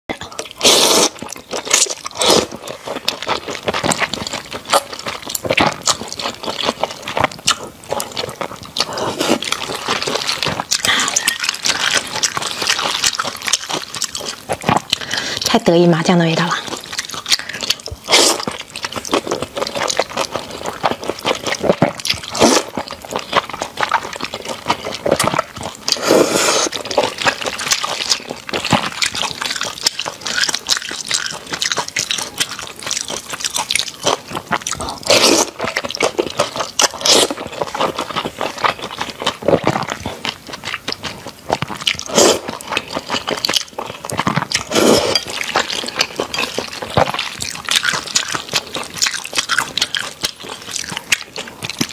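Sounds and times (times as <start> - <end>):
chewing with smacking clicks: 0.3 - 26.0, 26.6 - 51.9
slurping noodles: 0.5 - 15.5, 16.7 - 40.1, 41.6 - 51.9.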